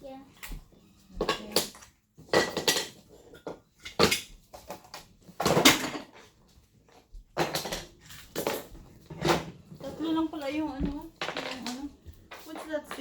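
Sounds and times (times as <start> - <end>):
objects clattering and knocking: 0.1 - 13.0.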